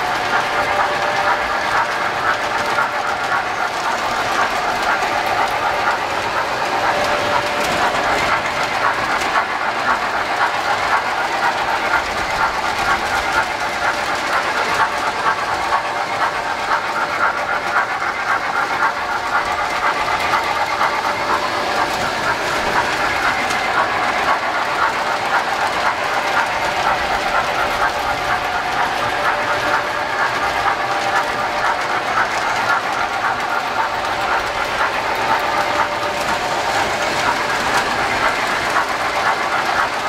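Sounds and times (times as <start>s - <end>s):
model train wheels clattering: 0.0s - 40.0s.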